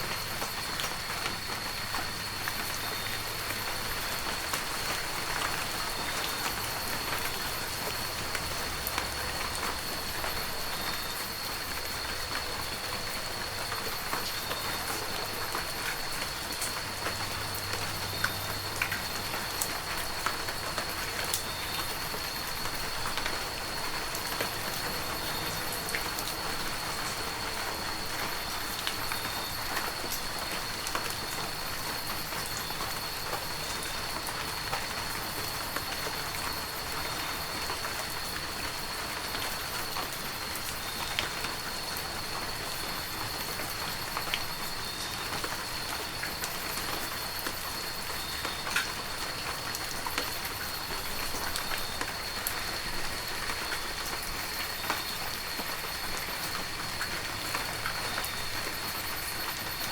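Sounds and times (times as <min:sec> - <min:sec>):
heavy rain in a forest: 0:00.0 - 0:59.9
raindrops striking close by: 0:00.0 - 0:59.9.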